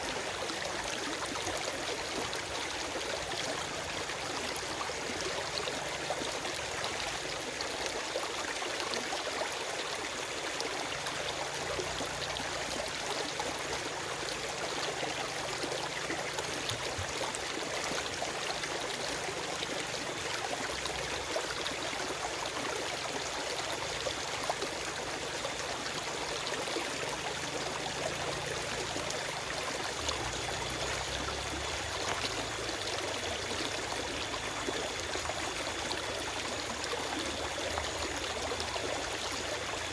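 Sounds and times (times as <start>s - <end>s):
stream running over rocks: 0.0s - 39.9s
water splashes and trickles: 0.0s - 39.9s.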